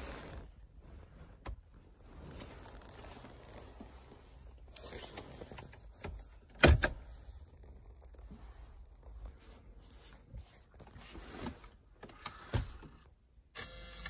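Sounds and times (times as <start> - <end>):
rustling and handling noise: 0.0 - 13.1.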